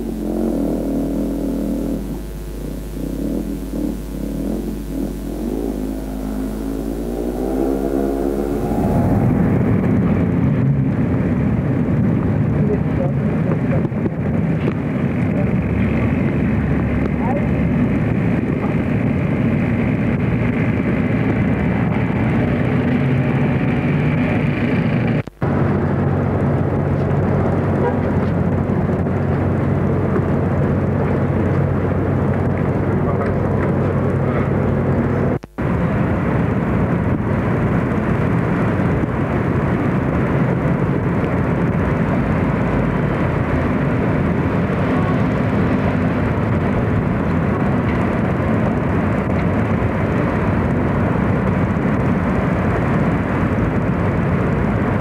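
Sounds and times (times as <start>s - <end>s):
low hum: 0.0s - 55.0s
mechanical drone: 0.0s - 55.0s.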